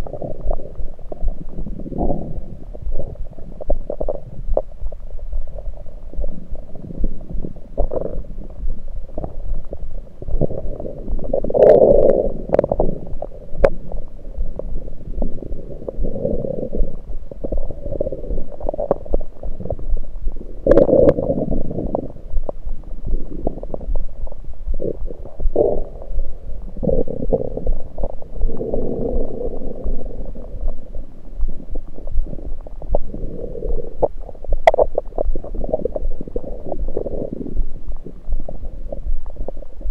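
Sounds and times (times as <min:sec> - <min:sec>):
stomach gurgles and rumbles: 0:00.0 - 0:39.9.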